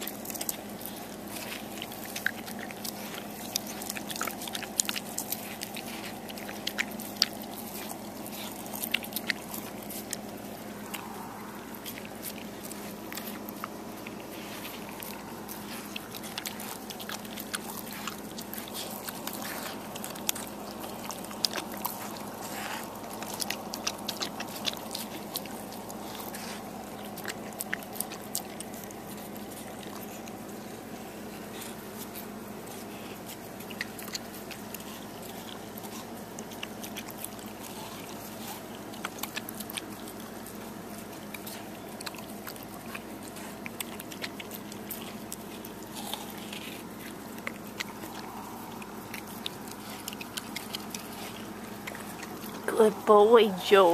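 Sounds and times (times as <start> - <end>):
dog chewing watermelon: 0.0 - 53.9.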